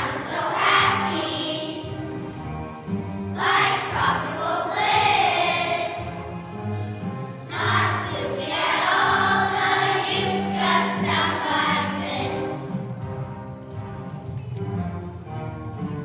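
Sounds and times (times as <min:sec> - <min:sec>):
children's choir singing: 0:00.0 - 0:12.8
instrumental accompaniment: 0:00.0 - 0:16.0.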